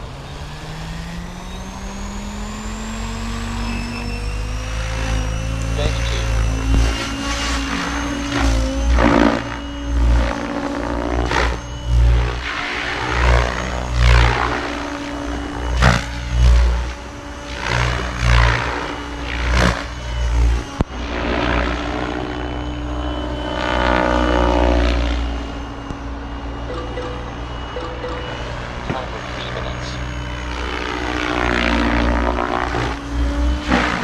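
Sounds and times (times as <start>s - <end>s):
rc helicopter rotor hum: 0.0s - 34.0s
rotor blade whoosh: 0.0s - 34.0s.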